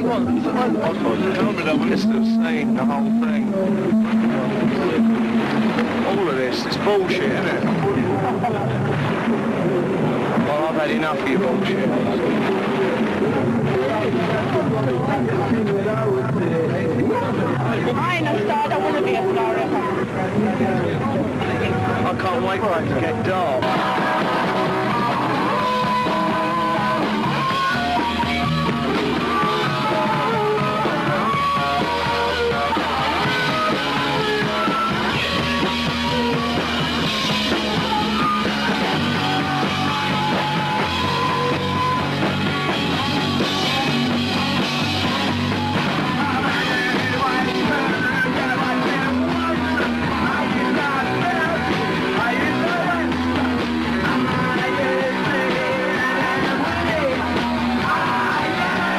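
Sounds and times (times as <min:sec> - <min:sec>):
punk rock band with singing: 0:00.0 - 0:58.9.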